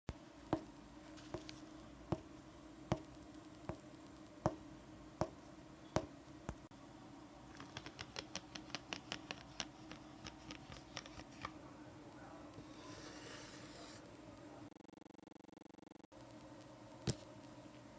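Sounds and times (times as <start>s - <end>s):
steady low hum: 0.1s - 17.9s.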